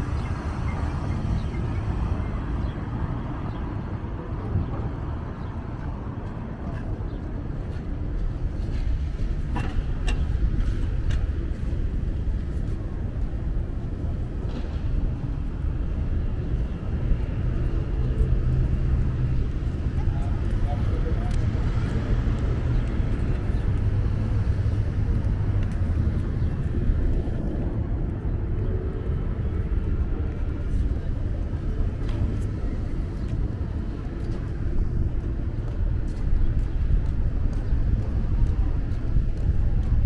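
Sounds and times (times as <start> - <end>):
street traffic rumble: 0.0 - 40.0.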